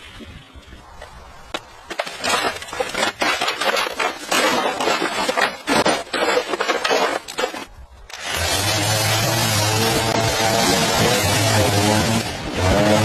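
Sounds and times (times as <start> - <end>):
debris cracking and crashing: 1.8 - 13.0.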